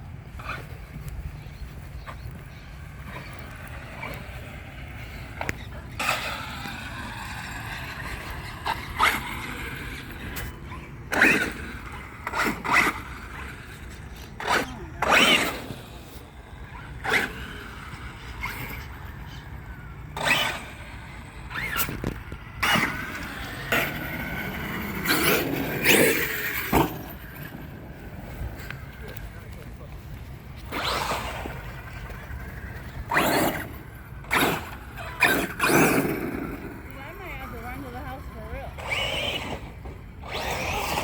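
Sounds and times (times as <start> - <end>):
outdoor noise: 0.0 - 41.0
electric motor whining: 3.0 - 29.2, 30.5 - 41.0.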